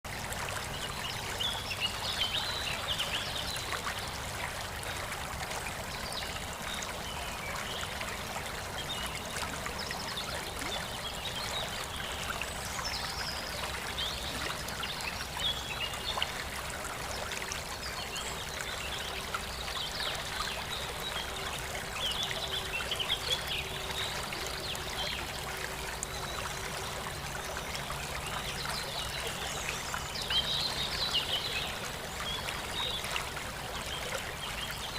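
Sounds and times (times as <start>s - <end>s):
water trickling and splashing: 0.1s - 34.9s.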